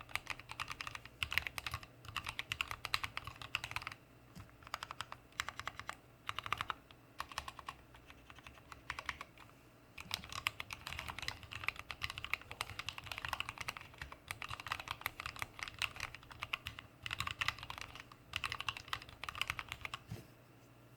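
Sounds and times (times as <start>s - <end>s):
typing on mechanical keyboard: 0.0s - 9.4s, 10.0s - 20.0s.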